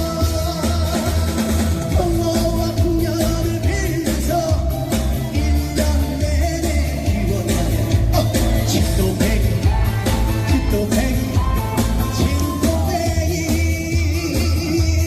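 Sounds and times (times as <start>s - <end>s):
band backing with bass beat: 0.0s - 15.0s
person singing: 0.0s - 15.0s.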